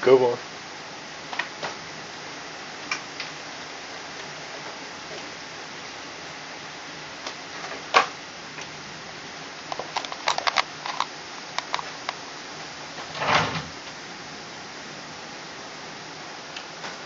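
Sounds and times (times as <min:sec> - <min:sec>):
storm rain hiss: 0:00.0 - 0:17.0.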